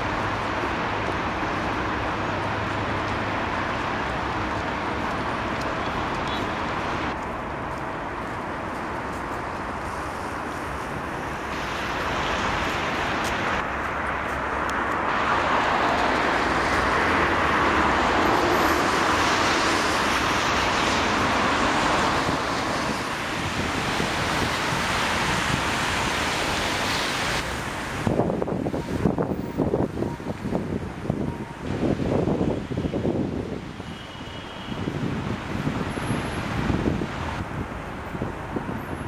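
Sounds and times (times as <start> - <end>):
heavy city traffic: 0.0 - 39.0.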